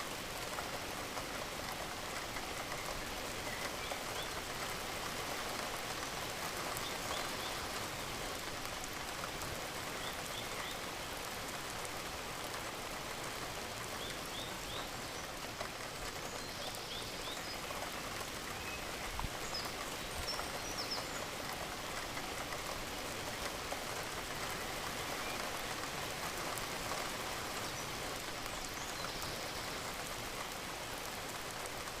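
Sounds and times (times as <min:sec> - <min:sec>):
gentle rain pattering: 0:00.0 - 0:32.0.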